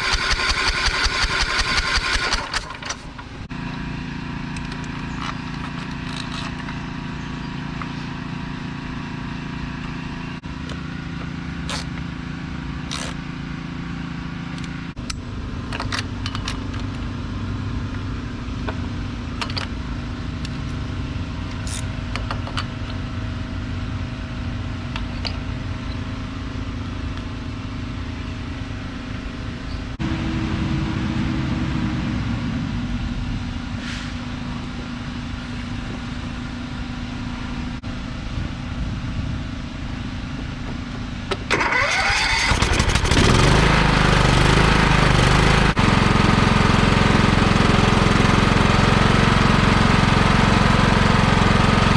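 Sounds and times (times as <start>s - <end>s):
riding mower engine running: 0.0s - 51.9s.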